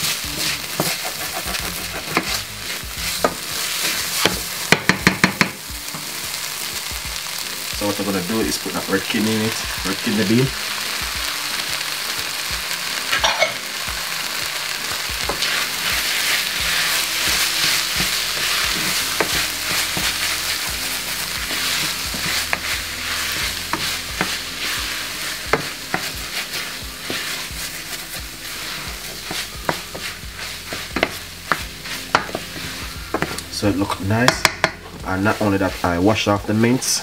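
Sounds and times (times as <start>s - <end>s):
wooden spoon scraping a pan: 0.0s - 10.5s, 13.1s - 37.0s
meat and beans sizzling in a pan: 0.0s - 37.0s.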